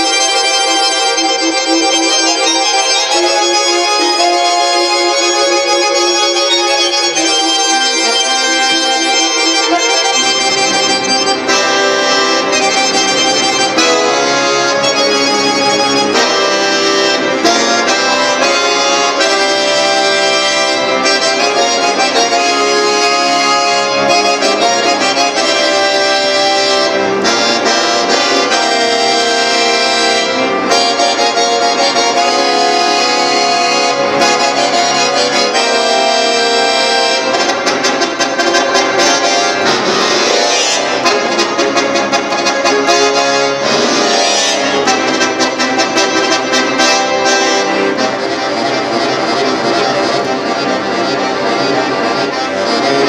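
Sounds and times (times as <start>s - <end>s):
accordion bass notes: 0.0s - 53.0s
accordion chords: 0.0s - 53.0s.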